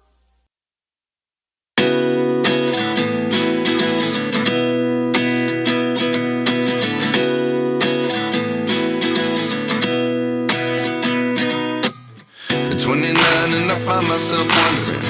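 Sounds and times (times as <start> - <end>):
strummed acoustic guitar song: 1.8 - 15.0.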